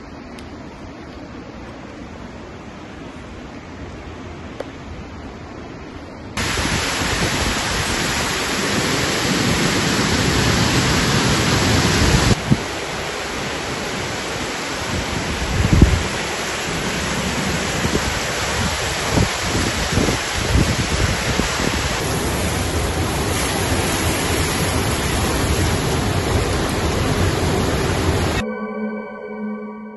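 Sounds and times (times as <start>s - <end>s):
waterfall roaring: 0.0s - 28.4s.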